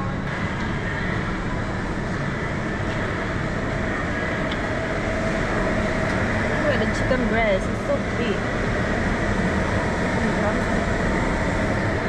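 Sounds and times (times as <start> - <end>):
low rumbling supermarket noise: 0.0 - 12.0.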